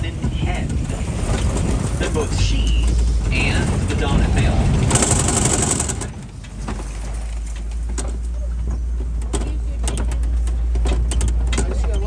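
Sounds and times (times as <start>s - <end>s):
truck engine rumble: 0.0s - 12.0s
vehicle rattles and knocks: 0.0s - 12.0s.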